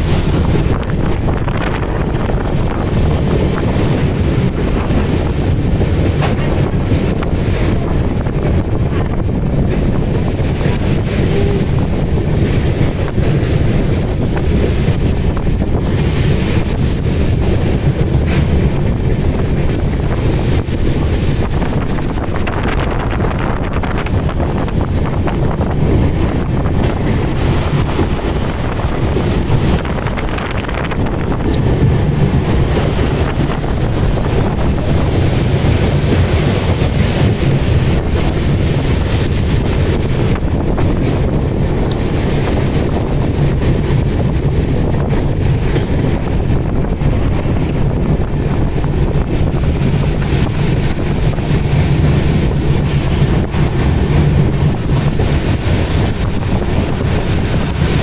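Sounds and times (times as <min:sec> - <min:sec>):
moving train rumble: 0:00.0 - 0:58.0
wind buffeting microphone: 0:00.0 - 0:58.0.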